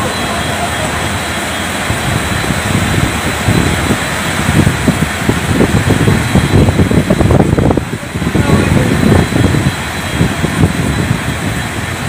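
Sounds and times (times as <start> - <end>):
floodwater rushing roar: 0.0 - 12.0
low rumbling: 0.0 - 12.0.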